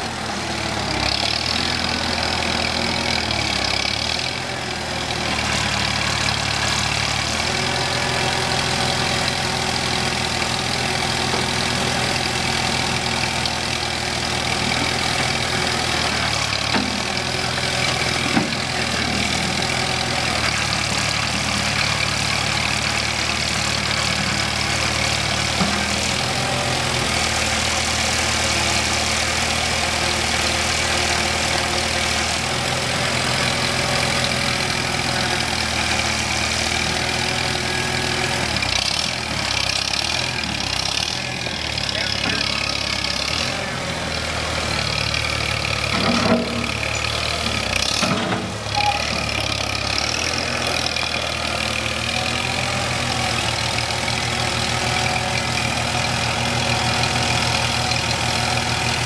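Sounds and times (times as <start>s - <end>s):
backhoe engine running near idle: 0.0s - 59.0s.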